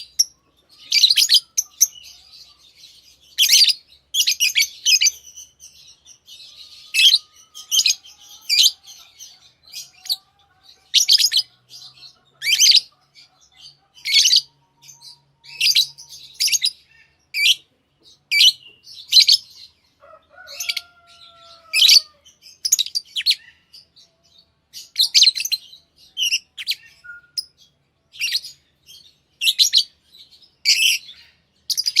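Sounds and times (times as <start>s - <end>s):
lovebirds chirping: 0.0s - 32.0s.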